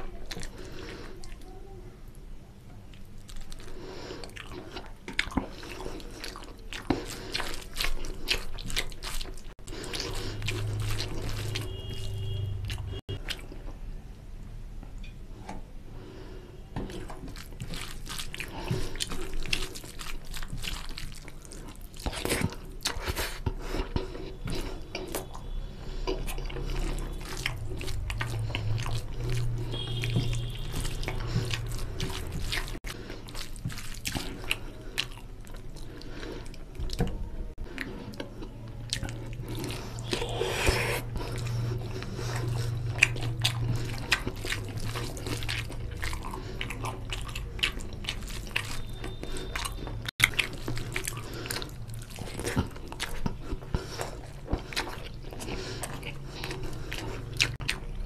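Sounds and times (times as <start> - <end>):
person chewing: 0.0 - 1.6, 2.9 - 13.8, 16.8 - 58.0
fingers mixing rice in gravy: 3.2 - 12.9, 16.8 - 25.4, 26.1 - 37.0, 37.8 - 57.6.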